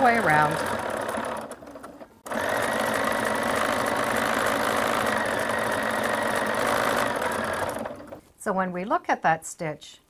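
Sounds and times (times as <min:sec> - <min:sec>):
sewing machine running: 0:00.0 - 0:08.2.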